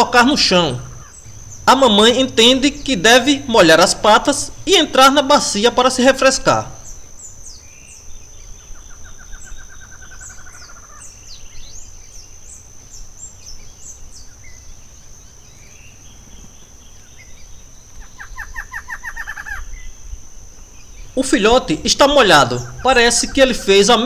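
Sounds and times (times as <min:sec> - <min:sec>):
bird trilling: 0:00.0 - 0:20.0, 0:20.7 - 0:24.0
birds chirping: 0:00.0 - 0:24.0.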